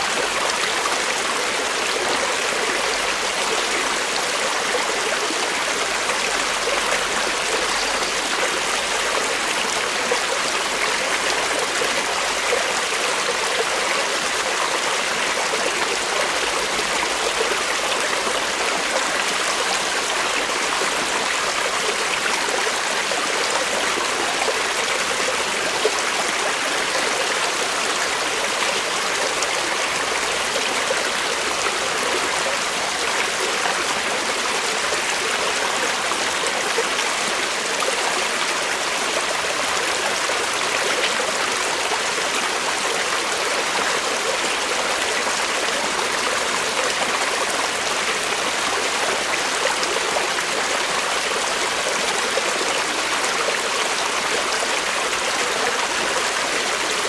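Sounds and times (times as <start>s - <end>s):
creek water flowing over rocks: 0.0s - 57.0s.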